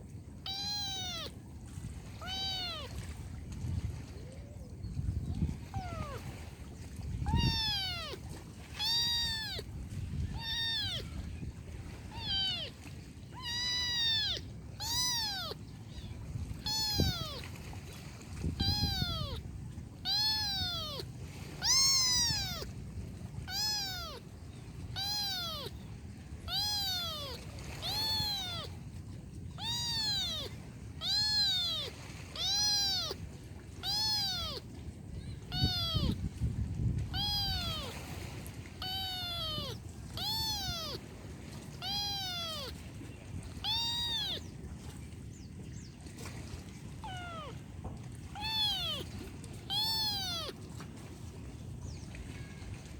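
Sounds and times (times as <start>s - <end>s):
kitten meowing: 0.4s - 1.4s, 2.1s - 3.1s, 5.2s - 6.4s, 7.1s - 28.8s, 29.5s - 44.6s, 47.0s - 50.7s.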